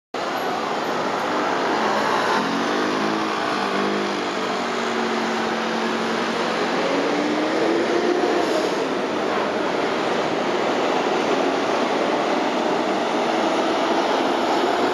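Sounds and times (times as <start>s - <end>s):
city road traffic: 0.1s - 14.9s
vehicles accelerating away: 0.2s - 14.9s.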